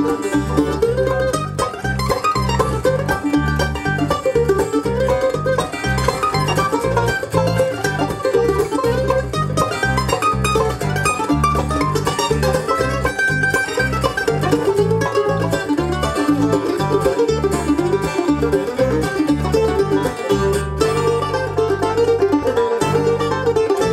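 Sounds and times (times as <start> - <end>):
bluegrass band playing: 0.0 - 23.9
mandolin picked quickly: 0.0 - 23.9.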